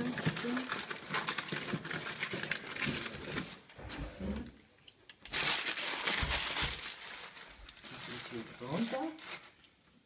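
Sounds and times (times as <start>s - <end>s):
paper rustling and crinkling: 0.0s - 4.3s, 5.2s - 9.7s.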